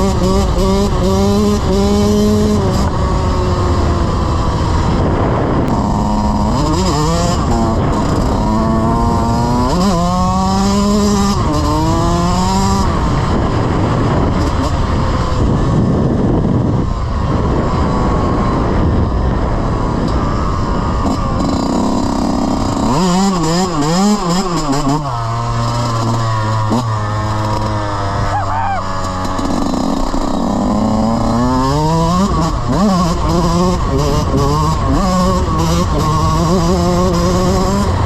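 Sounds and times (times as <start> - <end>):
off-road vehicle engine revving: 0.0 - 16.7, 19.4 - 38.0.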